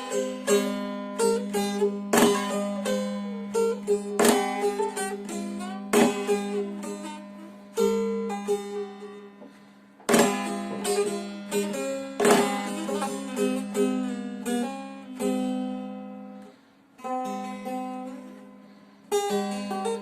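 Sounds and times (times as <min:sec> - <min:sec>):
long-necked lute strummed: 0:00.0 - 0:20.0
open-string drone: 0:00.0 - 0:20.0
plucked melody notes: 0:00.0 - 0:20.0.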